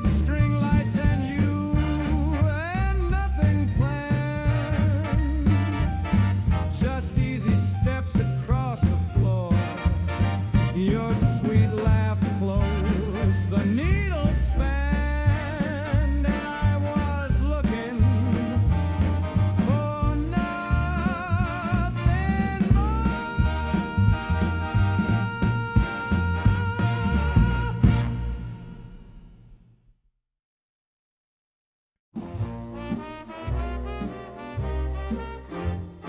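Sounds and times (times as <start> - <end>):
swing dance band music: 0.0 - 29.6, 32.3 - 36.0.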